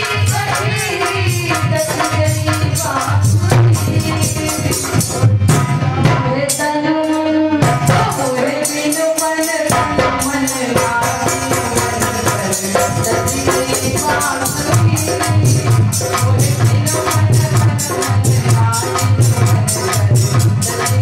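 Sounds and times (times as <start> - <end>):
woman singing through microphone: 0.0 - 5.2, 6.0 - 21.0.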